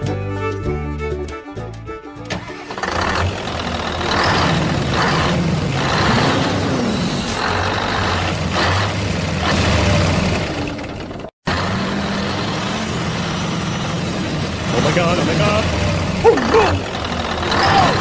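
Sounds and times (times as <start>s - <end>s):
vehicle engine humming: 2.2s - 18.0s.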